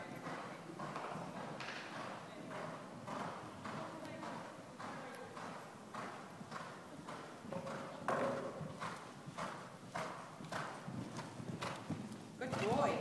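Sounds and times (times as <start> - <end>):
horse hoofbeats cantering: 0.0 - 13.0.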